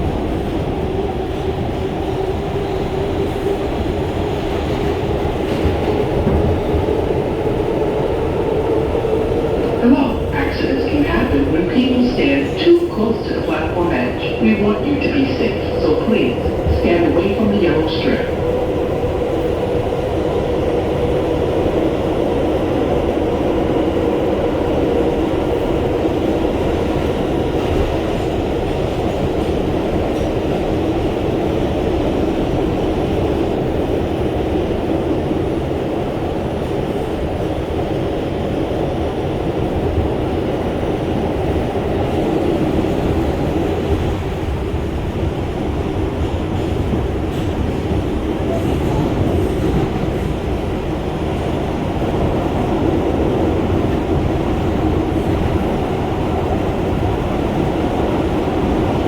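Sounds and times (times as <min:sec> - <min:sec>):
subway wheels rumbling on rails: 0:00.0 - 0:59.0.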